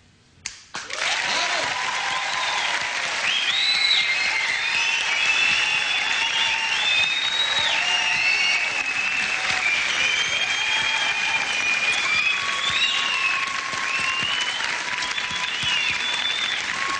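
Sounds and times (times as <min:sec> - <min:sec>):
audience applauding: 0:00.8 - 0:16.9.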